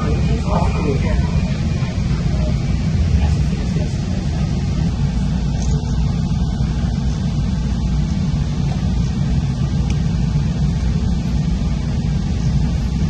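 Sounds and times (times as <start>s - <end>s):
commuter train rumbling: 0.0s - 13.0s.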